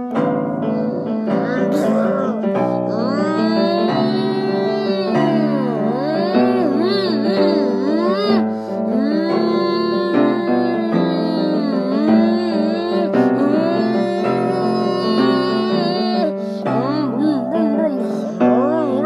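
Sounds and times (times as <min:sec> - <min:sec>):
background music with sliding melody: 0:00.0 - 0:19.0.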